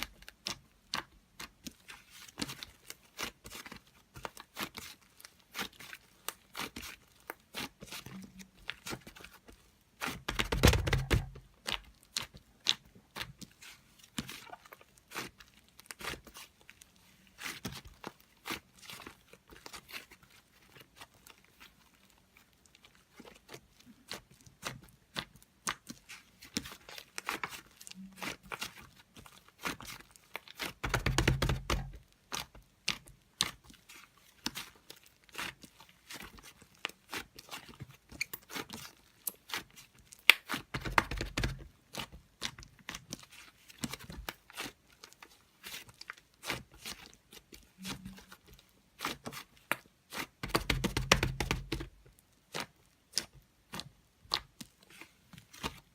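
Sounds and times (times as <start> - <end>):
crinkling and tearing: 0.0 - 55.9.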